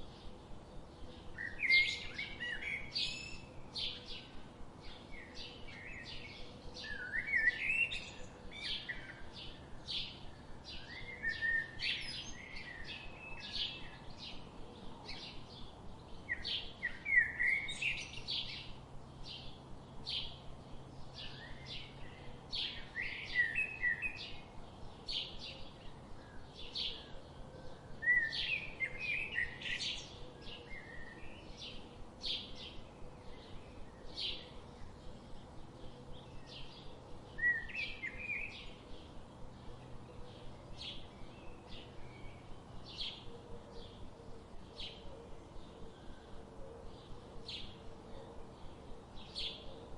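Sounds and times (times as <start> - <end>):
bird warbling song: 0.0 - 49.9.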